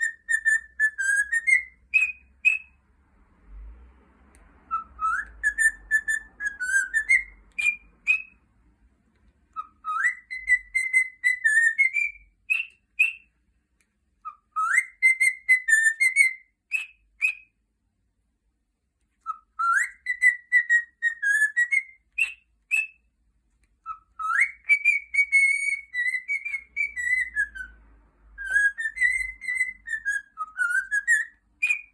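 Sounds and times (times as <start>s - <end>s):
cockatiel whistling: 0.0s - 2.8s, 4.7s - 8.4s, 9.5s - 13.3s, 14.2s - 17.6s, 19.2s - 23.1s, 23.8s - 31.9s.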